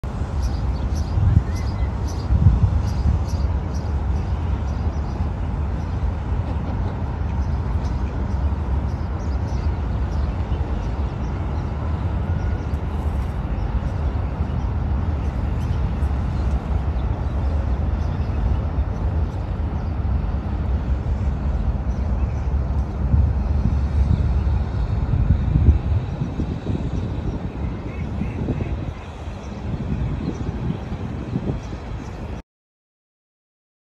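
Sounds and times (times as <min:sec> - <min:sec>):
low outdoor rumble: 0:00.0 - 0:32.4.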